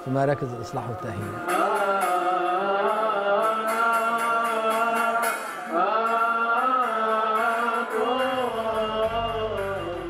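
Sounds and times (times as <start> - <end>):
voices chanting hymn: 1.4 - 10.0.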